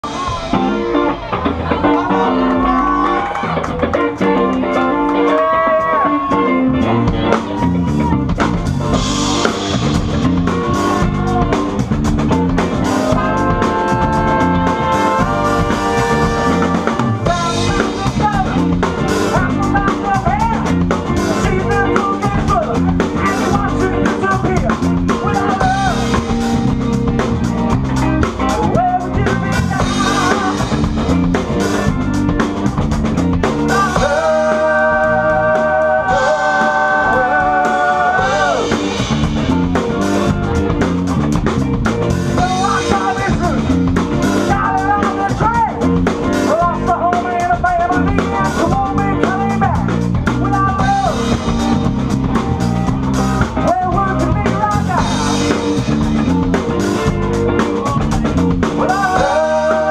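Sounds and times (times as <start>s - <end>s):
drum kit beat: 0.0s - 59.9s
live band playing instrumental: 0.0s - 59.9s.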